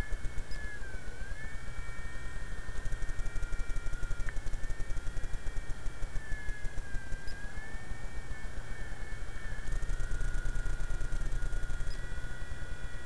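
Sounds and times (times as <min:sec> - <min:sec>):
model helicopter whine: 0:00.0 - 0:13.0.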